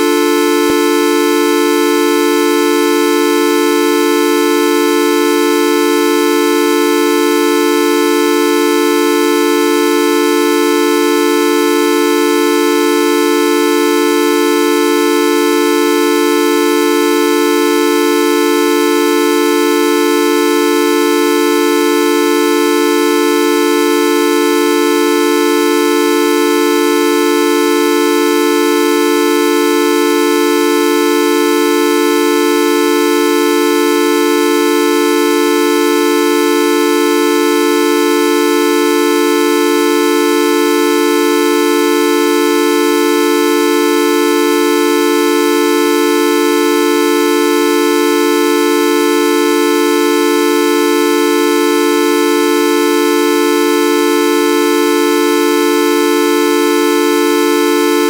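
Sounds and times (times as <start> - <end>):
buzzy electronic horn tone: 0.0 - 58.0.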